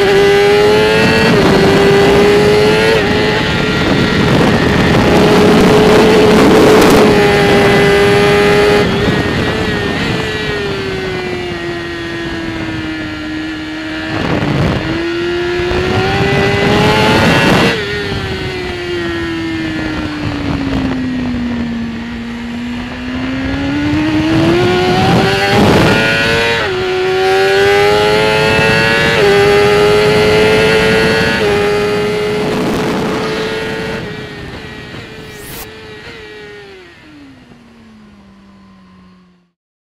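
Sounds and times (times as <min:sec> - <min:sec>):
wind rushing over microphone: 0:00.0 - 0:37.2
motorcycle engine at racing speed: 0:00.0 - 0:39.6.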